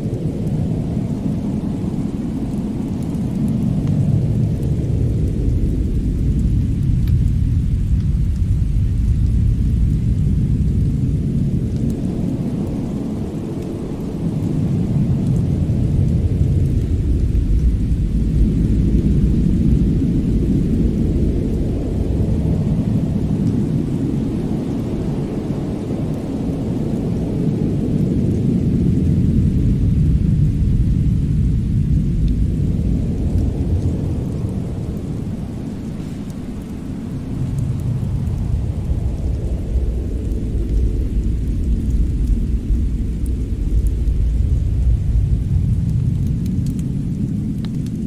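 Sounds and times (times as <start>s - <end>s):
deep rumbling storm ambience: 0.0s - 48.0s.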